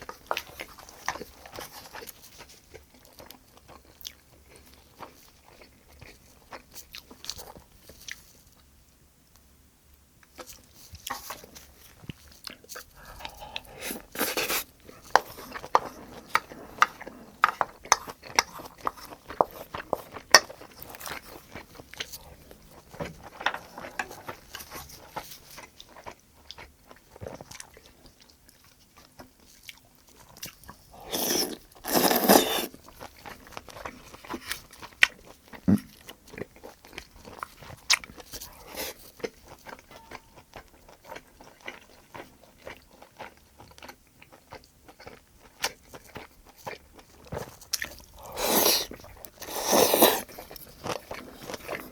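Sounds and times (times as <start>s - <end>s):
chewing with wet mouth clicks: 10.2s - 51.9s
food crunching: 10.2s - 51.9s.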